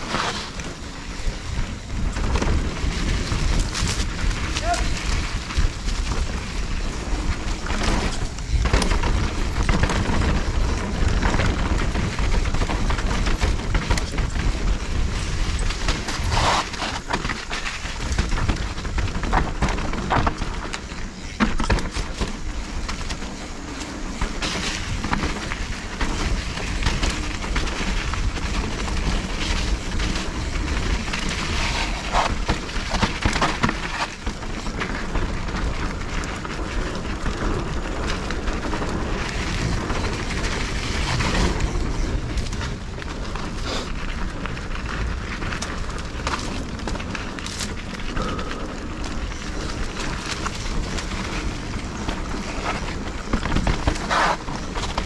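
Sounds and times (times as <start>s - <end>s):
bike clicks and rattles: 0.0s - 55.0s
bike tyre noise: 0.0s - 55.0s.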